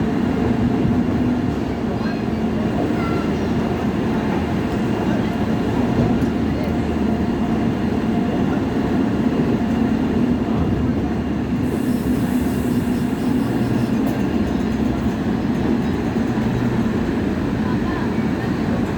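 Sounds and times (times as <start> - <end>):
train rumbling along track: 0.0 - 18.9.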